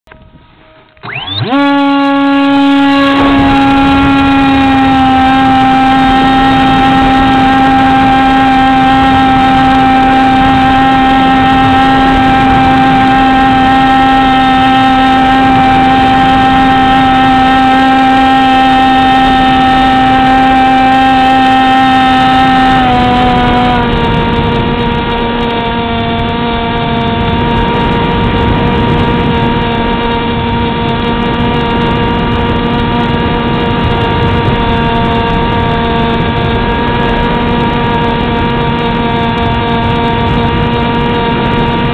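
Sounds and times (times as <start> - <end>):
model plane motor whine: 0.1 - 41.9.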